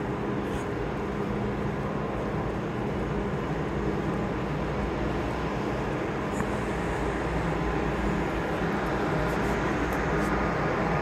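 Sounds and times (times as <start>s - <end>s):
faint even hum: 0.0s - 11.0s.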